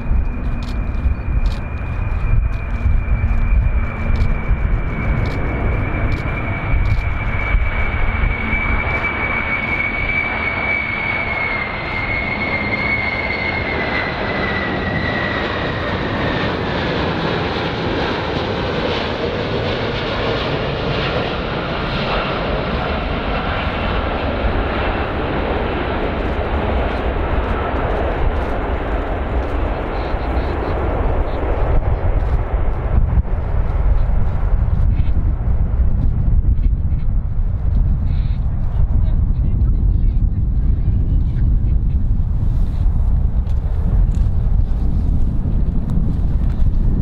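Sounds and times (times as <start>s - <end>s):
jet engine whine: 0.0s - 47.0s
jet engines rumbling: 0.0s - 47.0s.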